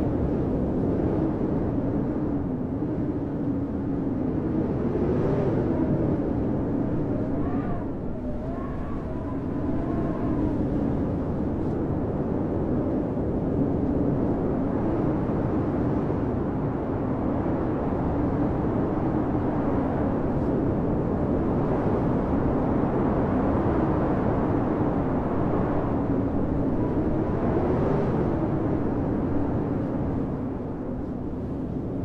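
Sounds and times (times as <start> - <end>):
blizzard wind blowing hard: 0.0 - 32.0
faint wind whistle: 1.2 - 31.8.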